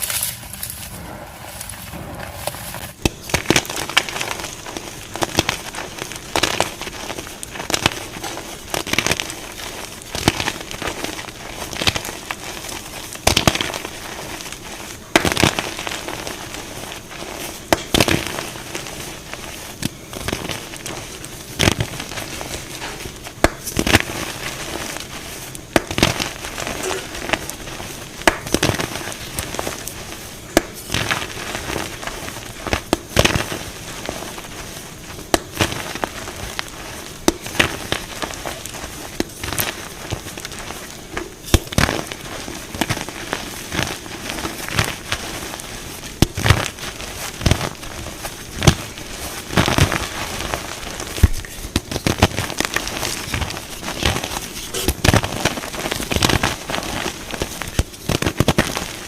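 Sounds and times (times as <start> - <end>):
chalk crumbling and crackling: 0.0 - 59.0.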